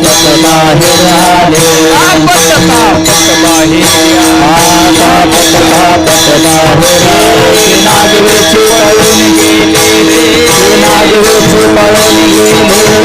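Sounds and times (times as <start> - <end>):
jingling hand percussion: 0.0 - 13.0
voices singing devotional verse: 0.0 - 13.0.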